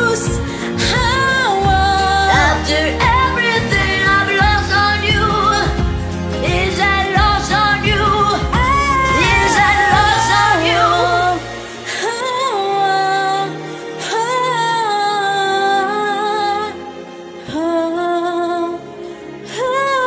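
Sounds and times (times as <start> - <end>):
backing track: 0.0 - 18.9
person singing pop song: 0.0 - 20.0.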